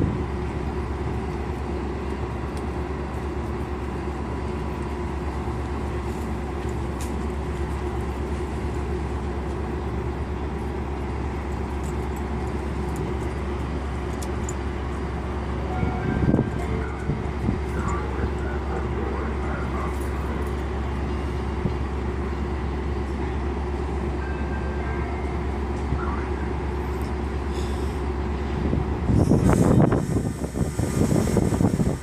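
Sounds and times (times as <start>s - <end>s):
diesel locomotive idling: 0.0s - 32.0s.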